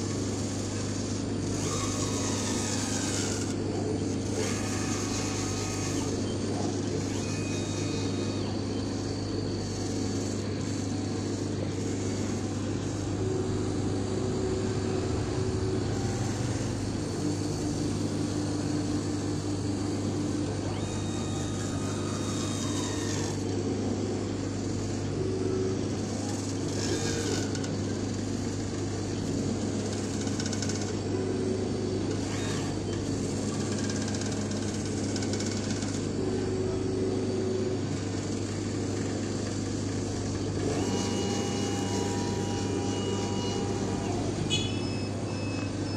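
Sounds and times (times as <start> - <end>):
drive motors whining: 0.0 - 45.9
laser cutter humming: 0.0 - 45.9.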